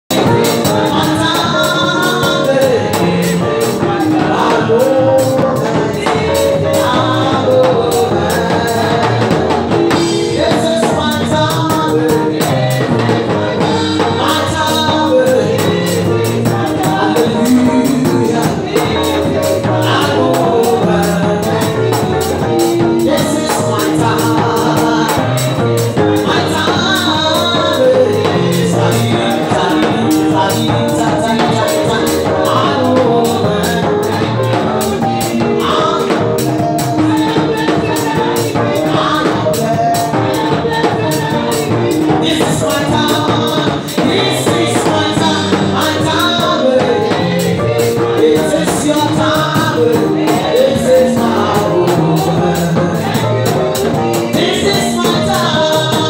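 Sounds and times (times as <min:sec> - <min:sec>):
fast percussion beat: 0:00.0 - 0:56.0
voices singing gospel: 0:00.0 - 0:56.0.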